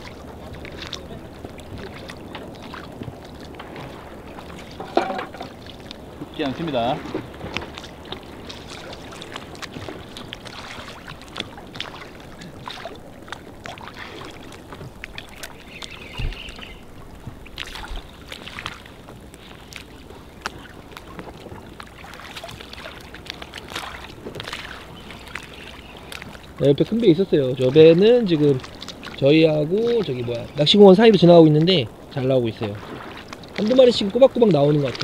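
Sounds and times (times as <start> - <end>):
little splashes: 0.0 - 35.0
waves lapping against boat: 0.0 - 35.0.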